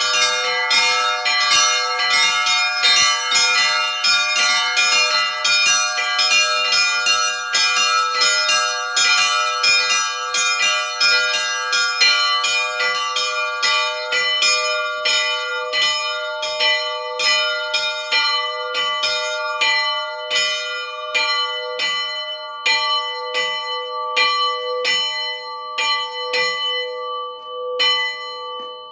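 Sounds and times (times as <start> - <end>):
church bells ringing: 0.0 - 28.9.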